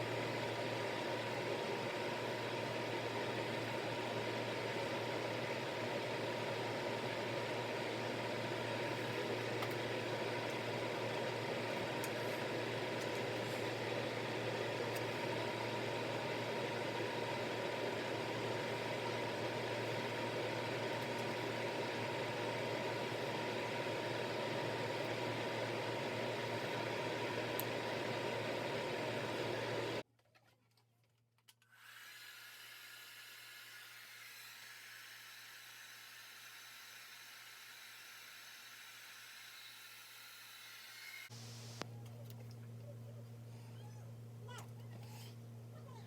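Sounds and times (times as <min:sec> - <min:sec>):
hair dryer running: 0:00.0 - 0:30.0, 0:31.7 - 0:41.8.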